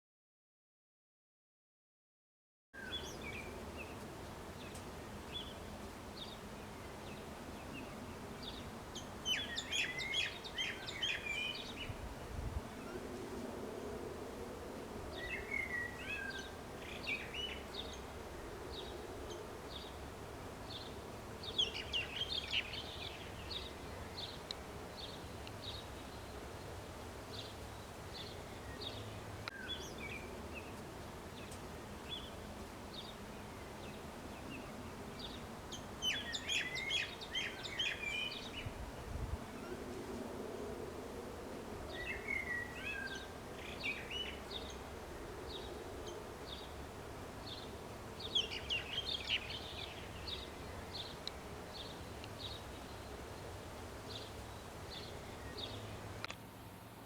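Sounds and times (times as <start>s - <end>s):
songbirds singing and chirping: 2.8s - 13.1s, 15.1s - 39.9s, 41.8s - 56.4s
outdoor background noise: 2.8s - 57.0s.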